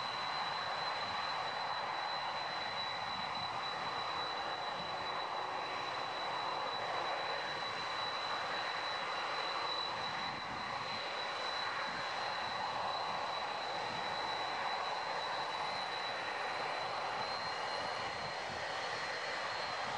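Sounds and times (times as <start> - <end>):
high-pitched engine whine: 0.0 - 19.9
jet engines rushing: 0.0 - 19.9.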